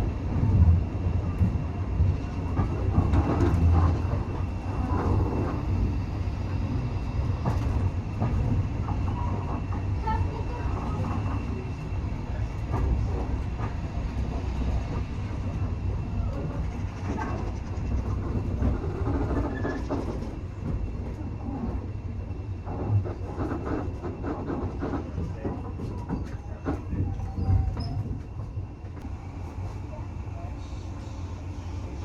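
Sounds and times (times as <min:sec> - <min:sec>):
railway carriage rumble: 0:00.0 - 0:32.0.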